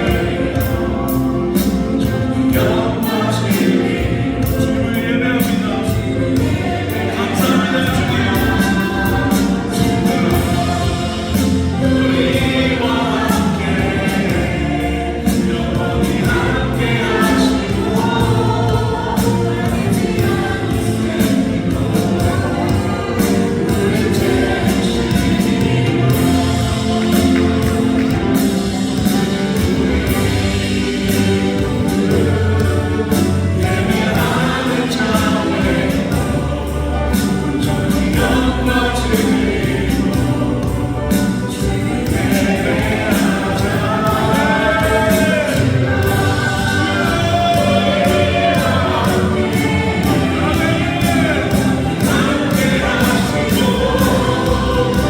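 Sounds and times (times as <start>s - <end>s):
gospel choir singing: 0.0s - 55.0s
steady beat: 5.8s - 55.0s.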